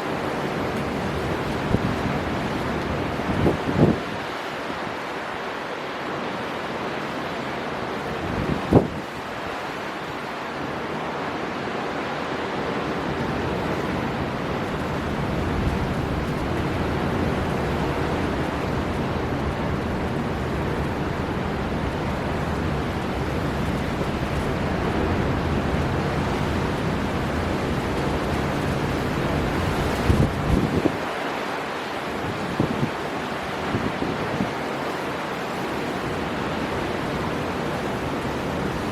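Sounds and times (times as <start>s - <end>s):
storm wind over sea: 0.0s - 38.9s.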